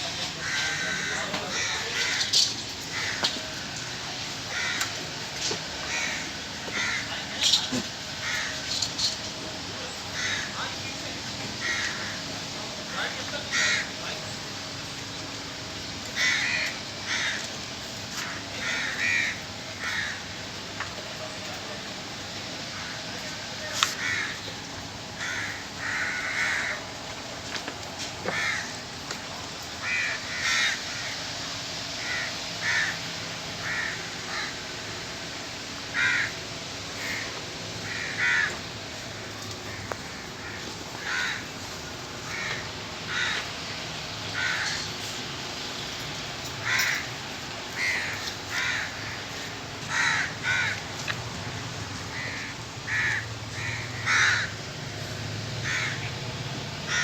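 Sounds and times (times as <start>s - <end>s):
birds calling: 0.0s - 27.3s, 27.9s - 57.0s.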